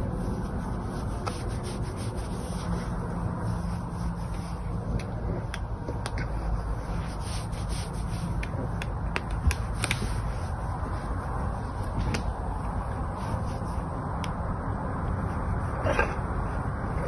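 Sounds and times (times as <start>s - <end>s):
hands rubbing fur: 0.0s - 15.8s
low rumble: 0.0s - 17.0s.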